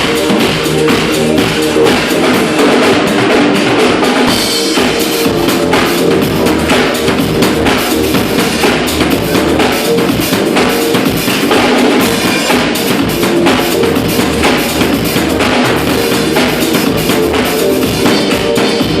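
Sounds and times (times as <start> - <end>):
dance music: 0.0 - 19.0
kick drum and snare hits: 0.0 - 19.0.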